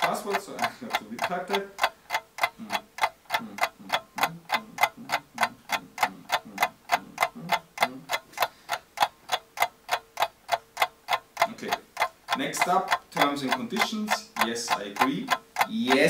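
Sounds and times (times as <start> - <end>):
rapid ticking: 0.0 - 16.0.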